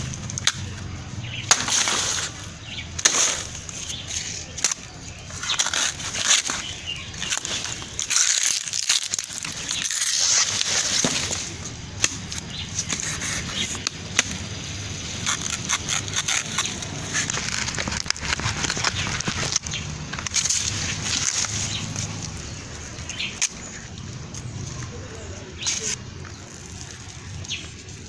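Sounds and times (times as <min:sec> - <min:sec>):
leaves and stems rustling: 0:00.0 - 0:28.0.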